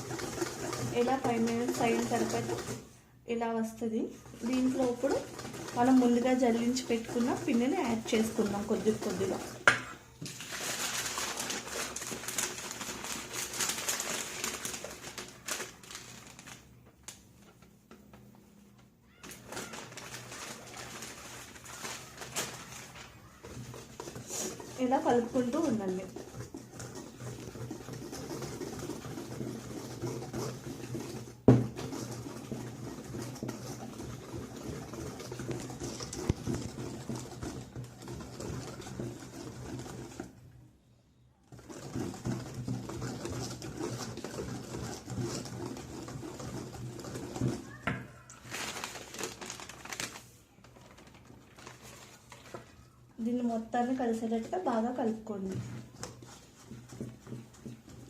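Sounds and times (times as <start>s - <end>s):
whisk scraping against bowl: 0.0s - 3.0s, 4.1s - 15.1s, 19.4s - 40.5s, 41.5s - 47.8s, 51.8s - 58.0s.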